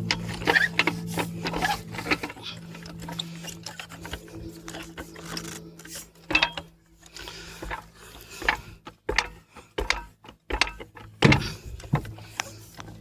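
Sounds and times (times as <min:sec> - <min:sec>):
metal wheel tools clanking: 0:00.0 - 0:13.0.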